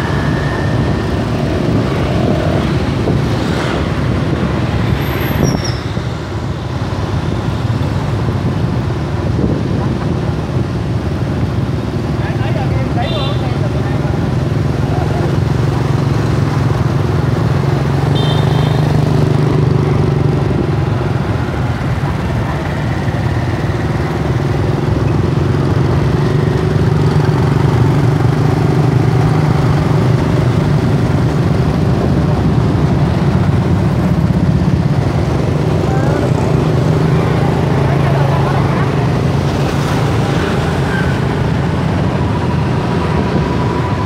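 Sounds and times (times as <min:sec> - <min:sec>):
road noise: 0:00.0 - 0:44.0
surrounding traffic engines: 0:00.0 - 0:44.0.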